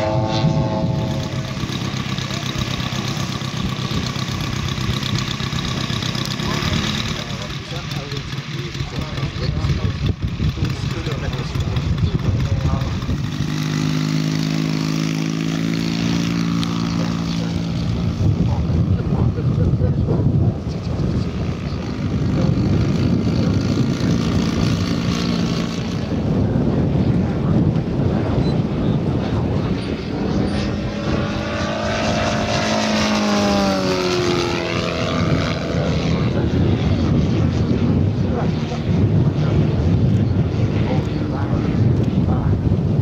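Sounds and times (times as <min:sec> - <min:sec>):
model airplane engine running: 0:00.0 - 0:43.0.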